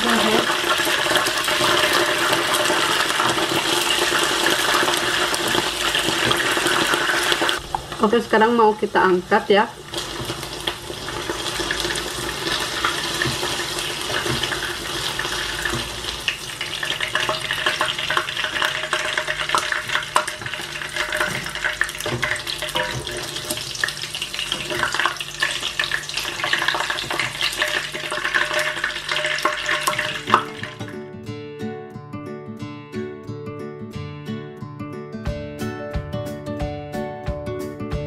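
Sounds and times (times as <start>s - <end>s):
chicken frying in hot oil: 0.0s - 30.8s.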